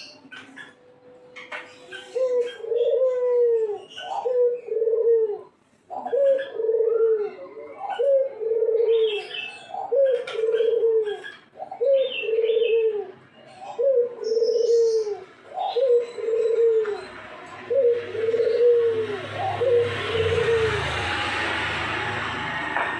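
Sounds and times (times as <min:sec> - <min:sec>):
dove cooing: 0:01.4 - 0:21.5.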